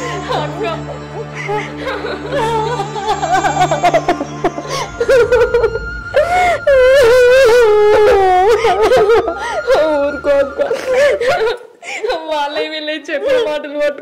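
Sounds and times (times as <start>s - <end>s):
wordless wailing vocal: 0.0s - 11.6s
sad background music: 0.0s - 14.0s.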